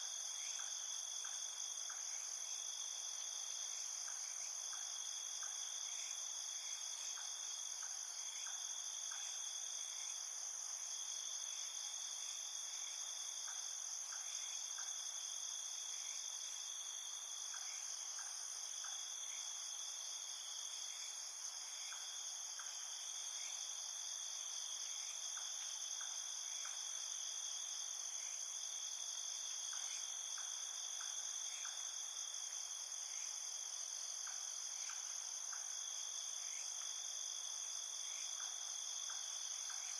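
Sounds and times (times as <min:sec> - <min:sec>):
low insect chirps: 0:00.0 - 0:39.9.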